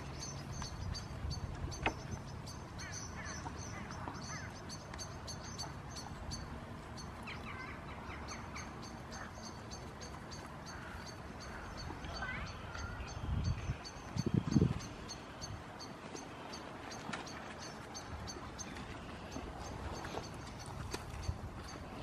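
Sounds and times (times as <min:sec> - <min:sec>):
birds chirping: 0:00.0 - 0:22.0
scattered bird calls: 0:00.0 - 0:22.0.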